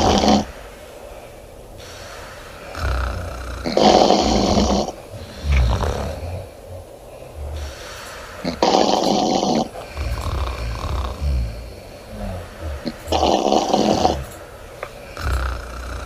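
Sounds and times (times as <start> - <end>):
woman snoring: 0.0 - 0.7, 1.8 - 16.0
low breaths: 0.0 - 16.0.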